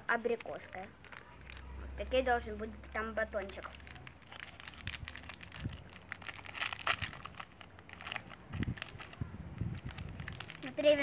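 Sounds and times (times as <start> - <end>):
plastic wrapper crinkling and tearing: 0.2 - 1.8, 3.4 - 11.0.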